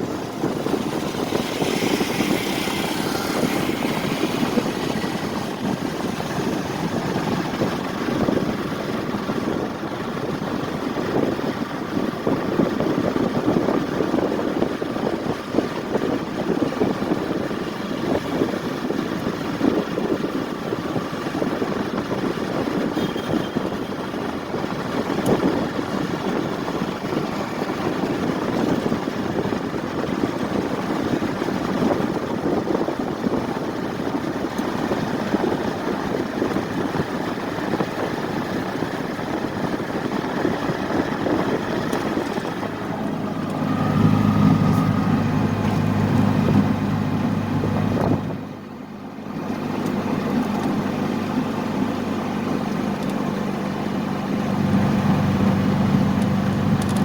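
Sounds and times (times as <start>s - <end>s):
low engine hum: 0.0s - 57.0s
traffic rumbling: 0.0s - 57.0s.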